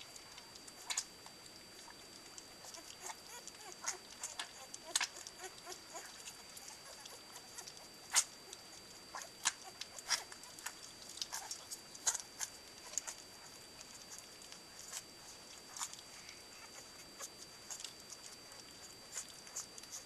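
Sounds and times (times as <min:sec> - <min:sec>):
puppies lapping food: 0:00.0 - 0:20.0.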